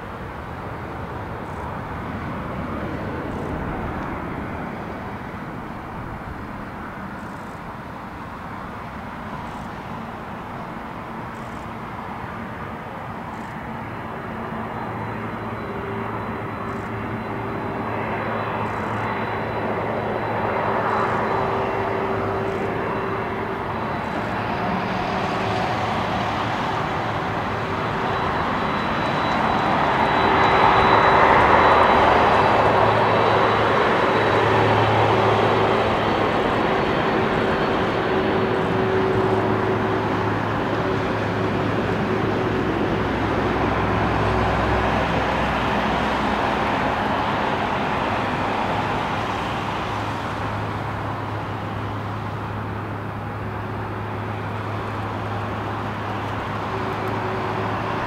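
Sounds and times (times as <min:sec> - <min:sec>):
jet engine roar with high whine: 0:00.0 - 0:58.0.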